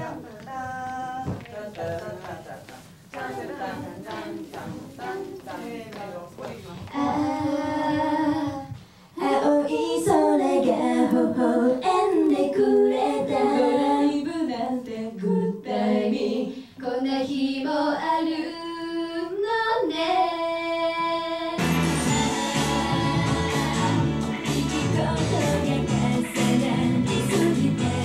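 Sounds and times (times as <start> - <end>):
women singing pop song: 0.0 - 28.0.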